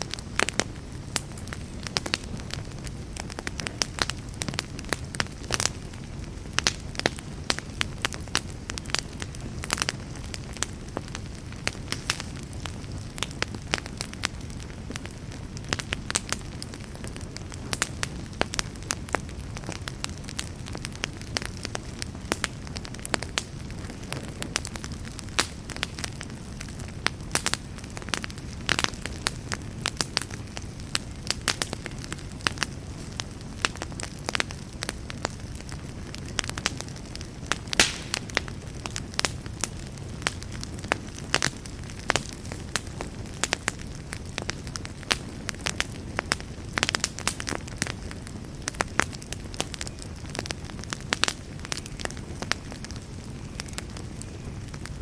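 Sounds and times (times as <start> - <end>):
burning wood crackling and popping: 0.0 - 55.0
campfire flames rushing: 0.0 - 55.0.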